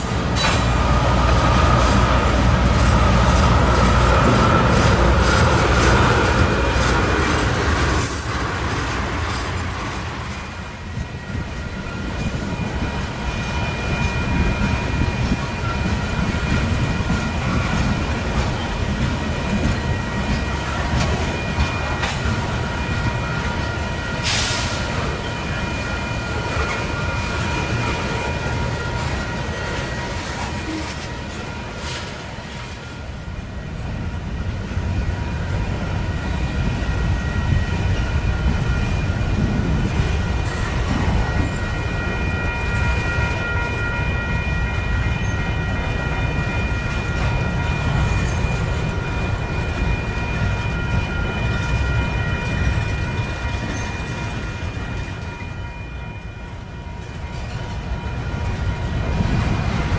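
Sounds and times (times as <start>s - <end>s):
freight train rumbling and clattering: 0.0s - 59.9s.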